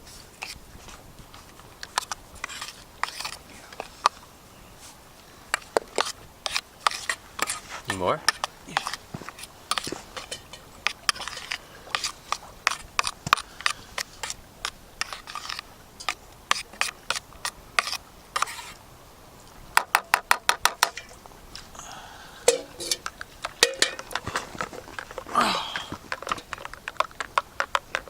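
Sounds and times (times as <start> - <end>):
camp gear clicking and scraping: 0.0 - 18.9, 19.8 - 28.0.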